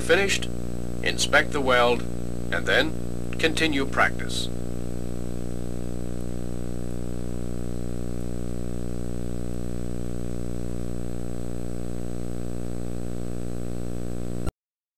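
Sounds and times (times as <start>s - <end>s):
faint high whine: 0.0s - 14.5s
low electrical hum: 0.0s - 14.5s.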